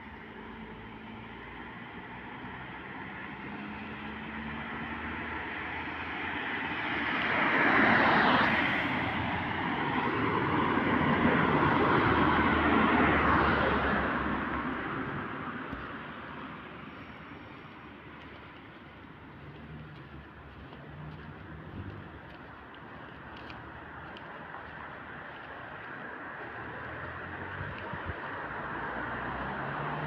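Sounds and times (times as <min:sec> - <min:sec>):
passing traffic rushing: 0:00.0 - 0:30.0.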